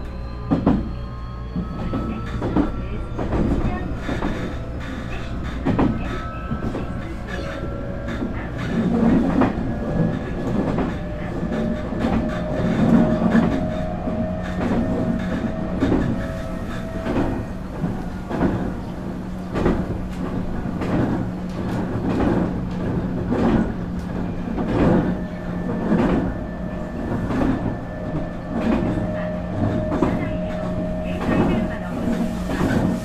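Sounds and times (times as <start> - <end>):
train wheels clacking: 0.0 - 33.0.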